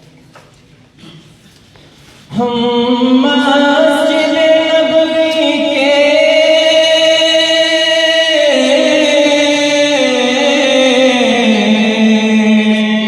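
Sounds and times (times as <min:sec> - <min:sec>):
man singing long note: 0:02.3 - 0:13.0.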